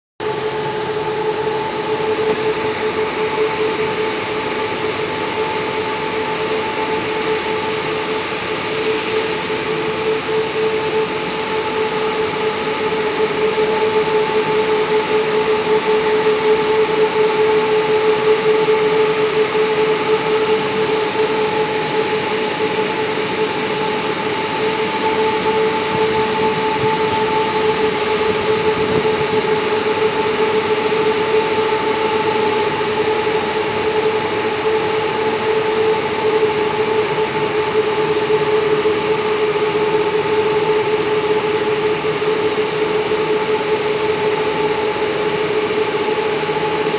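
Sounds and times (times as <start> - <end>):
industrial machinery running: 0.2 - 46.9.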